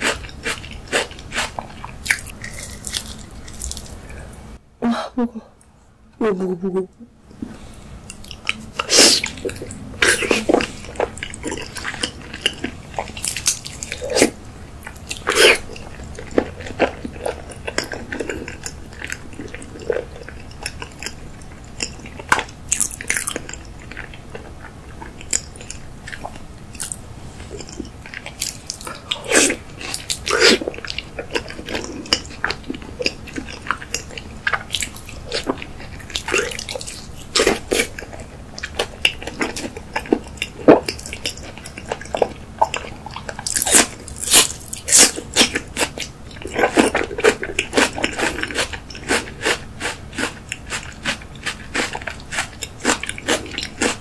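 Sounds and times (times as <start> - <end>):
chewing with wet smacks: 8.1 - 54.0.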